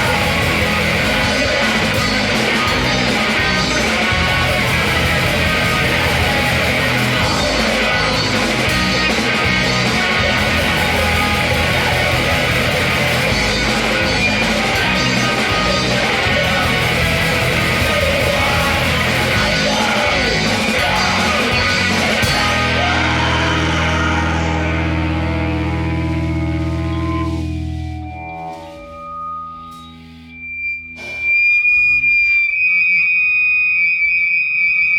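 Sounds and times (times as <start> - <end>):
heavy rock band playing: 0.0 - 30.2.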